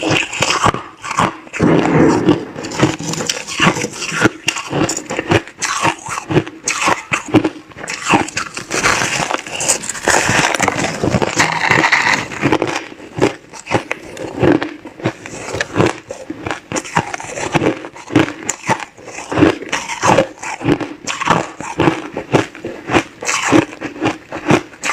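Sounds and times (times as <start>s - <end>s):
ice being chewed: 0.0s - 24.9s.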